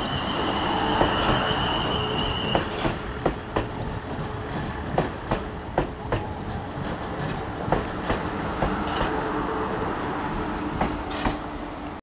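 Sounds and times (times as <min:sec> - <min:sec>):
electric train whine: 0:00.0 - 0:12.0.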